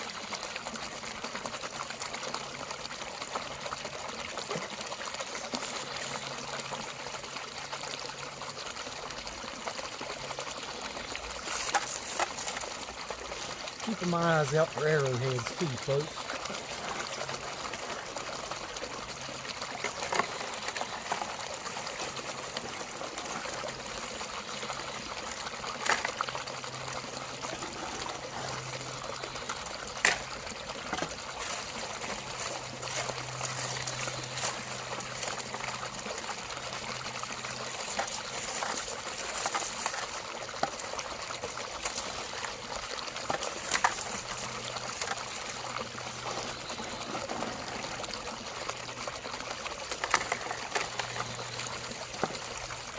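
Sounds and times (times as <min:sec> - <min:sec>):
shallow water trickling: 0:00.0 - 0:52.9.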